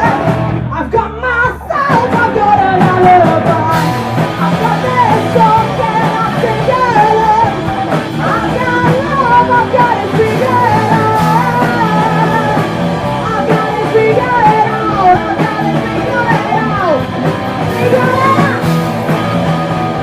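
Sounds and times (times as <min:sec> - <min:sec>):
punk rock band playing: 0:00.0 - 0:20.0
vocalist singing: 0:00.0 - 0:20.0.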